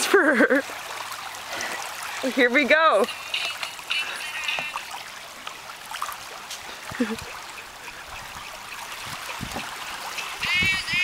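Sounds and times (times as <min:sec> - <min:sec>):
water trickling and lapping: 0:00.0 - 0:11.0.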